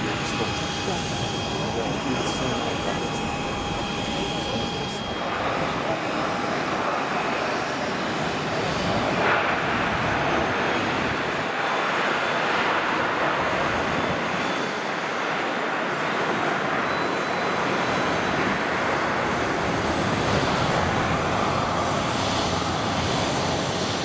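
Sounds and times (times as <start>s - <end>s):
jet engines taxiing: 0.0s - 24.0s.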